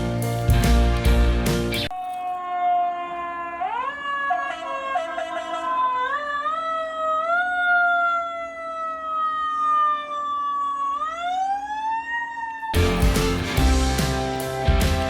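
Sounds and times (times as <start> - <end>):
emergency vehicle siren wailing: 1.9 - 14.9.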